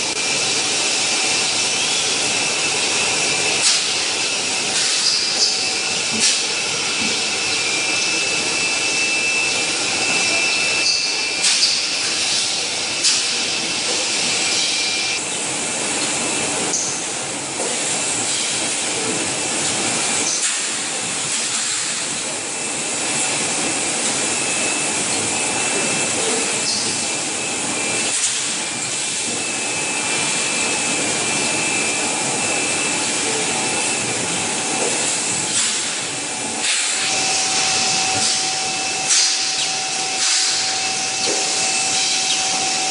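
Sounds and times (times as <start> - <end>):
high machine whine: 0.0 - 42.9
machinery hiss: 0.0 - 42.9.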